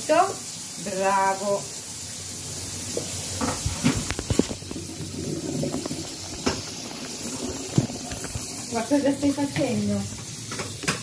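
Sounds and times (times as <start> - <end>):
food hissing on stove: 0.0 - 10.9.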